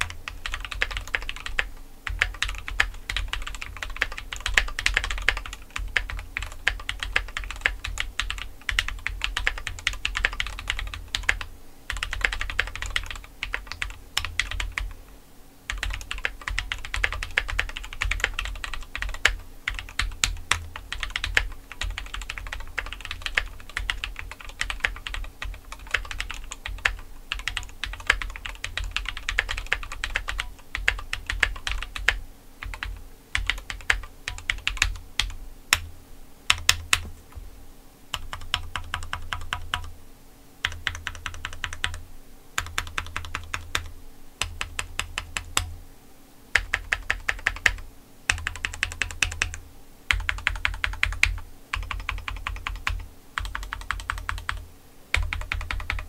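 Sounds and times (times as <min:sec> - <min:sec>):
fast typing on mechanical keyboard: 0:00.0 - 0:15.0, 0:15.7 - 0:35.8, 0:36.5 - 0:37.1, 0:38.1 - 0:39.9, 0:40.6 - 0:42.0, 0:42.6 - 0:45.7, 0:46.5 - 0:56.0.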